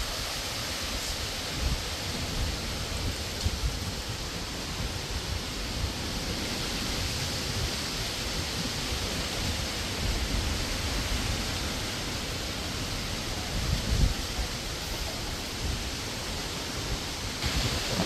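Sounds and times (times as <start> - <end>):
strong wind rushing: 0.0 - 18.0
wind buffeting microphone: 0.0 - 18.0.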